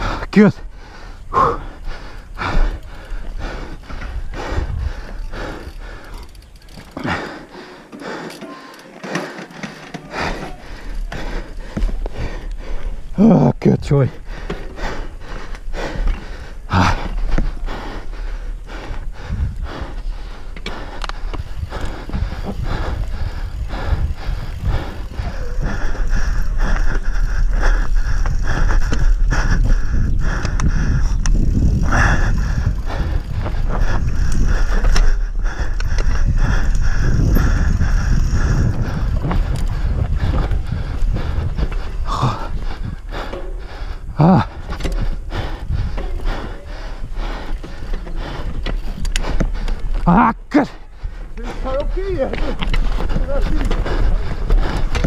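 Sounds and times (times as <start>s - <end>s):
bike rattling over bumps: 0.0s - 55.0s
bike tyres rumbling on dirt: 0.0s - 55.0s.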